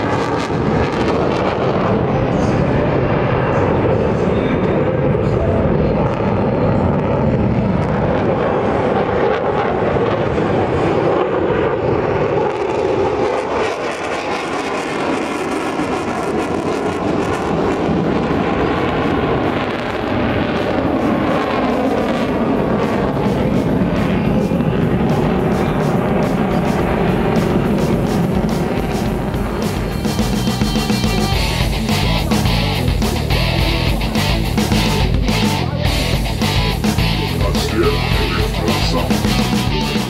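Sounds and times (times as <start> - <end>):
fighter jet engines roaring: 0.0 - 40.0.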